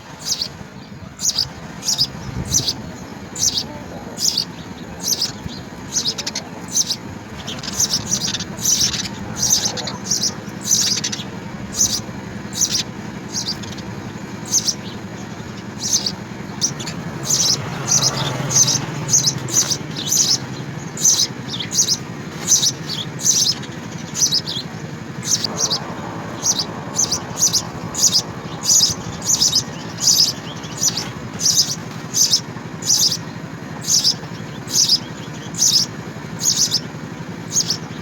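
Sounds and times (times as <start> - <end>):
low background hum: 0.0 - 38.0
sparrow chirping: 0.0 - 38.0.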